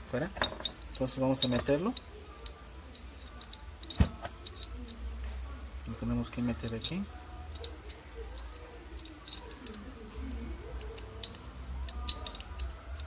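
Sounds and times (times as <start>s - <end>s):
small metal clicks and clinks: 0.2s - 5.2s, 6.6s - 13.0s.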